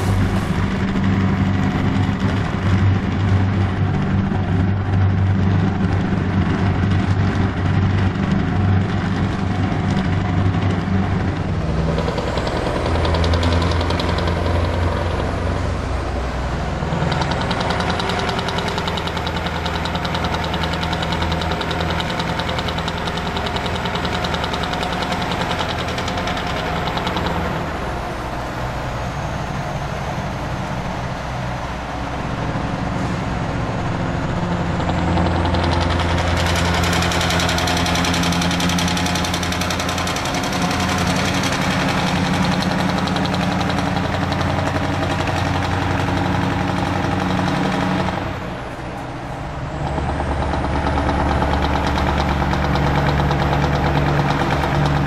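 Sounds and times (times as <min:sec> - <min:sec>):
truck engine drone from inside cab: 0:00.0 - 0:55.0.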